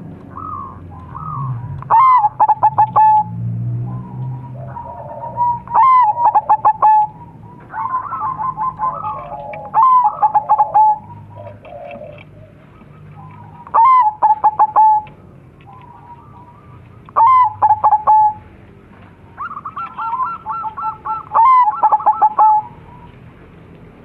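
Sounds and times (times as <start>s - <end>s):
doves cooing: 0.0s - 23.5s.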